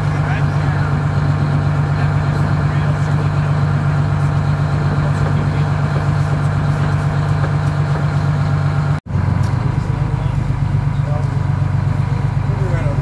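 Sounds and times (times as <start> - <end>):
boat engine running at low speed: 0.0 - 13.0.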